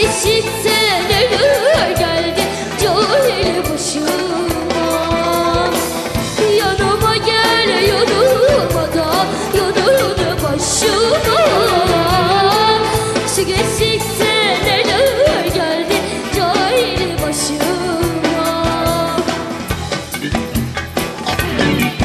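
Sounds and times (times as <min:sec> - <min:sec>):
girl singing: 0:00.0 - 0:19.5
instrumental backing music: 0:00.0 - 0:22.0.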